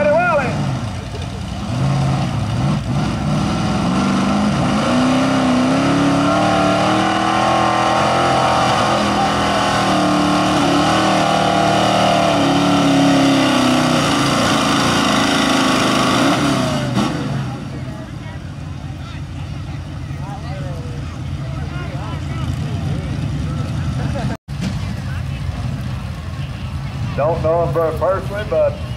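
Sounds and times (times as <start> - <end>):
truck engine at high revs: 0.0 - 28.9.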